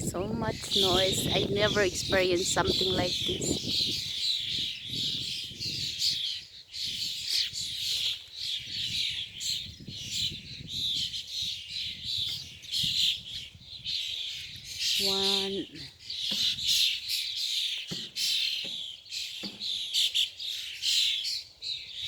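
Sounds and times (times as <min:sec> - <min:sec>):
birds chirping and squawking: 0:00.0 - 0:22.0.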